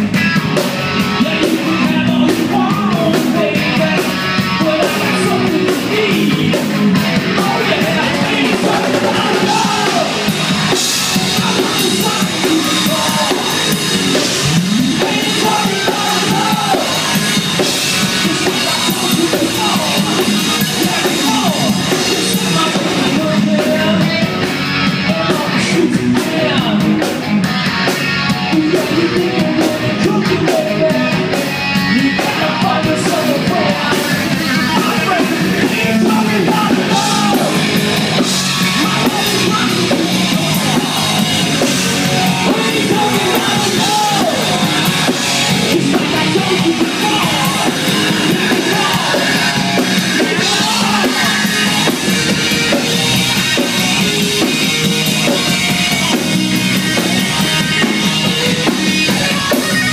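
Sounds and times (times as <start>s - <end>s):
drum kit: 0.0s - 59.9s
electric guitar: 0.0s - 59.9s
man singing and shouting: 0.0s - 59.9s.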